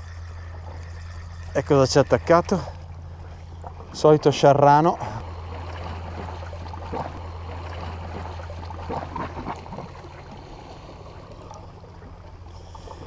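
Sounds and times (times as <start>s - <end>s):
steady low hum: 0.0s - 13.0s
water lapping against rocks: 0.0s - 13.0s.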